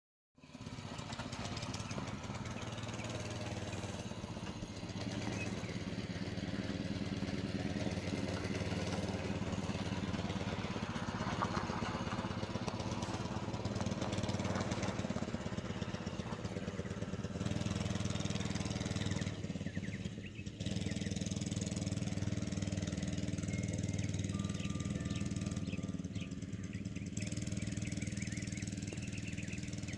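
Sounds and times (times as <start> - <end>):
small engine running: 0.4 - 29.9.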